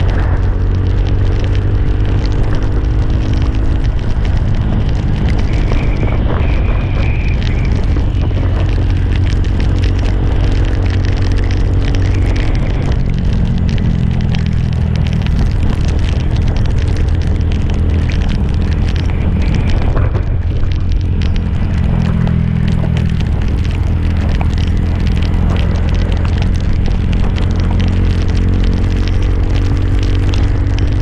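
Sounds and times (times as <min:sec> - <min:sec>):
wind buffeting on microphone: 0:00.0 - 0:31.0.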